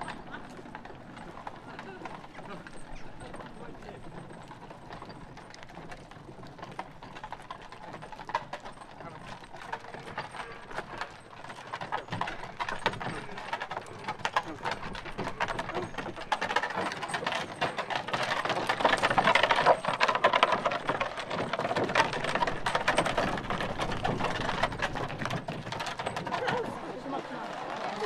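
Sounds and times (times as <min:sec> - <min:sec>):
cart rolling: 0:00.0 - 0:28.0
hooves and footsteps on gravel: 0:00.0 - 0:28.0.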